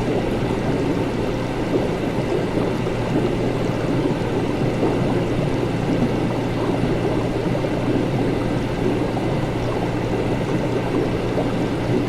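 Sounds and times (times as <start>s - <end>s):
liquid bubbling: 0.0s - 12.0s.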